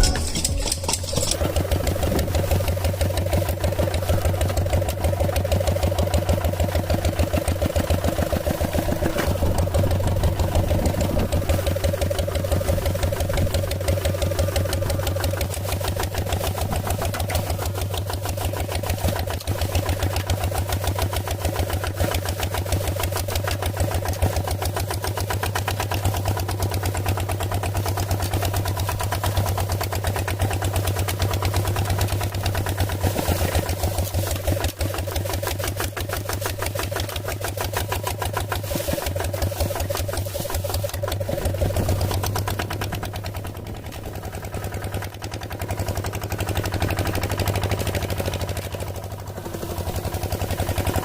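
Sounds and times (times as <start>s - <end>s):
engine chugging with hum: 0.0s - 51.0s.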